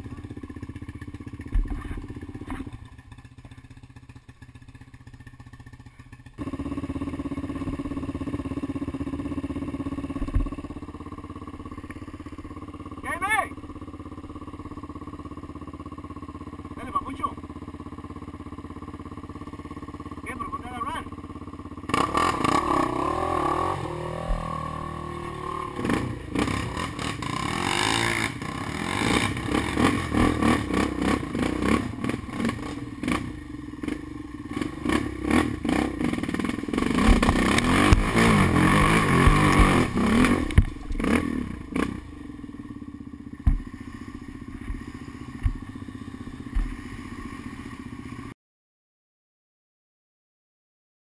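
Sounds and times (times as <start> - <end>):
quad engine revving: 6.4 - 48.3.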